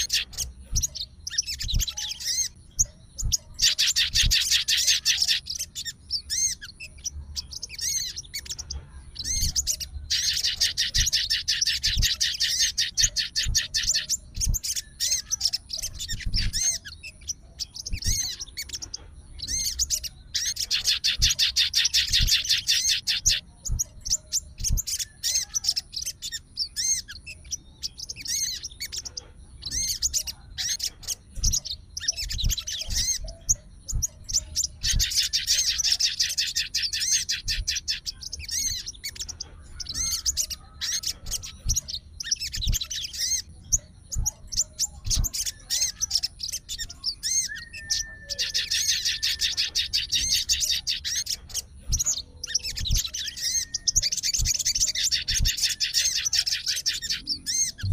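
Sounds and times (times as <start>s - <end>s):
songbird trilling: 0.0s - 57.9s.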